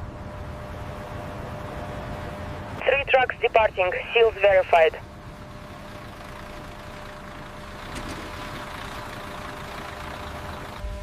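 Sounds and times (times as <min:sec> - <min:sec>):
truck engines rumbling: 0:00.0 - 0:11.0.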